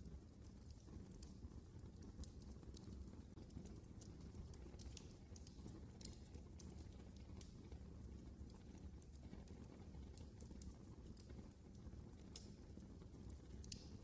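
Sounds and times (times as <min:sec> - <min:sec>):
fire crackling softly: 0:00.0 - 0:14.0.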